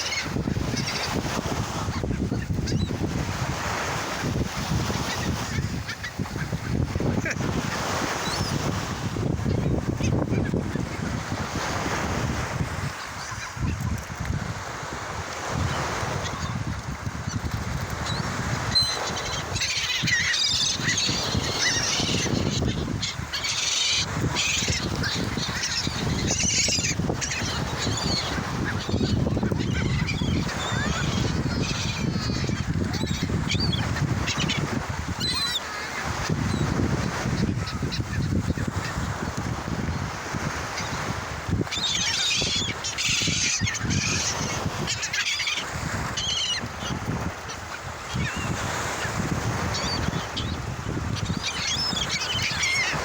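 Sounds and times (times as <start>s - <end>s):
seagulls squawking: 0.0s - 12.1s, 12.8s - 14.1s, 15.7s - 53.0s.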